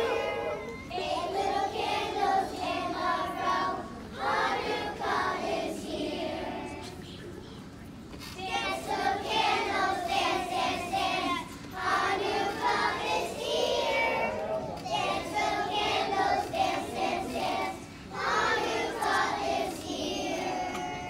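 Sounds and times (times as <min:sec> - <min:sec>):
children singing together: 0:00.0 - 0:06.9, 0:08.4 - 0:21.0.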